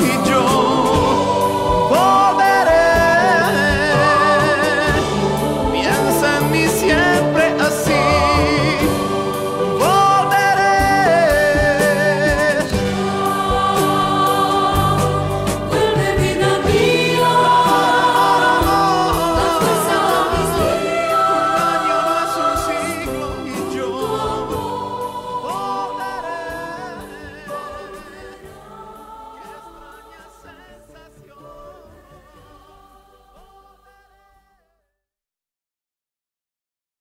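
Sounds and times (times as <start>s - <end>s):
pop band with steady beat: 0.0s - 32.1s
choir singing sustained notes: 0.0s - 34.3s.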